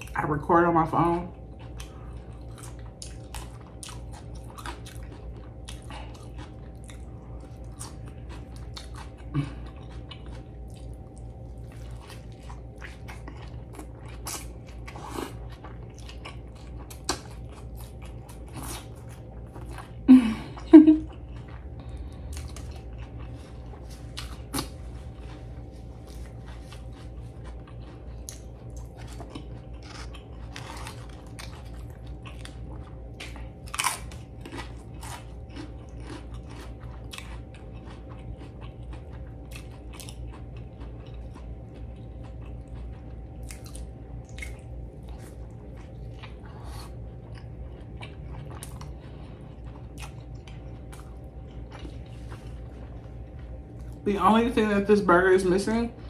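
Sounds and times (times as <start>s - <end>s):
wet mouth chewing: 1.4s - 20.0s, 21.0s - 54.0s.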